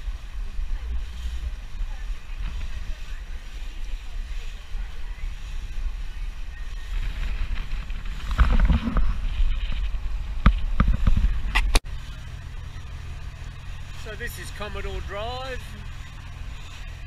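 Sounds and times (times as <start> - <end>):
boat engine rumble: 0.0 - 17.0
wake water rushing: 0.0 - 17.0
wind buffeting microphone: 0.0 - 17.0.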